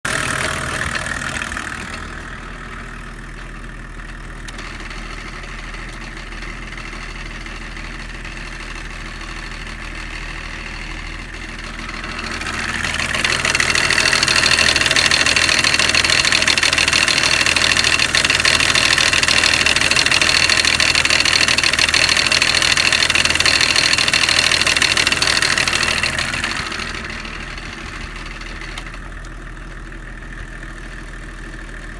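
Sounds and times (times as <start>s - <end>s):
diesel engine running: 0.0s - 31.9s
engine pulley knocking: 0.1s - 31.9s.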